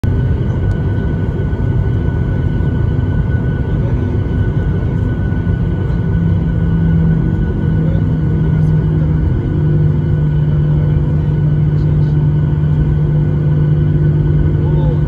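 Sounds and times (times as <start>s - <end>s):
jet engine rumble and whine: 0.0s - 15.0s.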